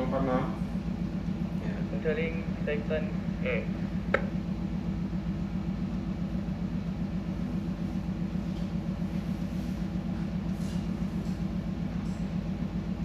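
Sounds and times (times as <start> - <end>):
ship engine throbbing hum: 0.0 - 13.0.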